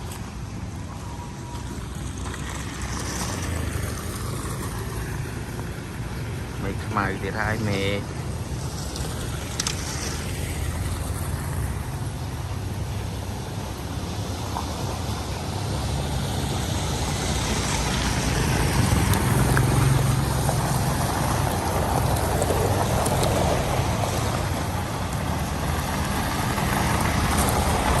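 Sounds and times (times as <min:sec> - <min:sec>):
truck engine drone: 0:00.0 - 0:28.0.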